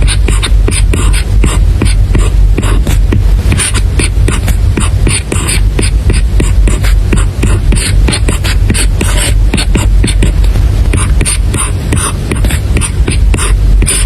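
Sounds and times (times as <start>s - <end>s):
low steady rumble: 0.0s - 14.0s
stylus scratchy strokes: 0.0s - 14.0s.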